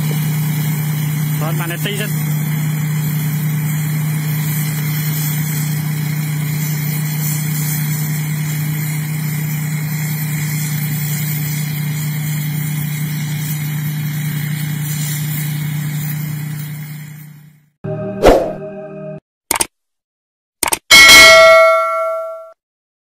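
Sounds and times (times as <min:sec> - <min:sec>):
combine harvester running: 0:00.0 - 0:19.2.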